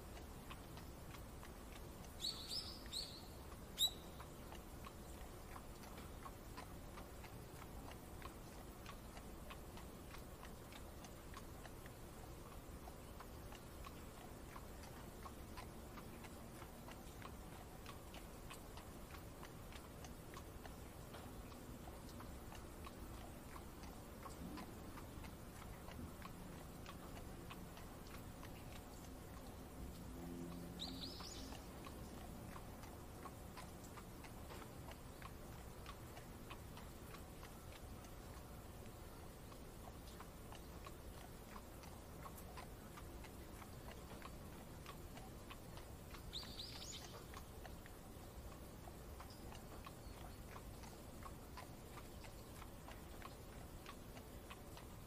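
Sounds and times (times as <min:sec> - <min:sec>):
light ticking and tapping clicks: 0:00.0 - 0:55.0.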